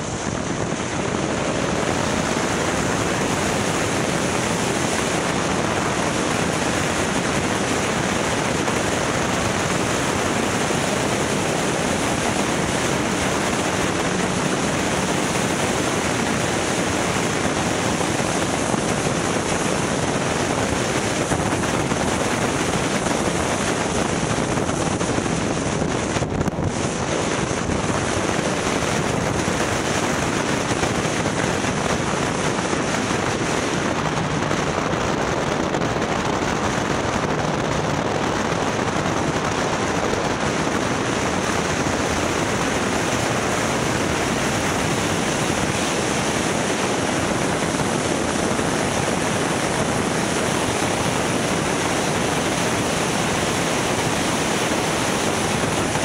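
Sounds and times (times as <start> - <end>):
wind rushing on microphone: 0.0 - 56.0.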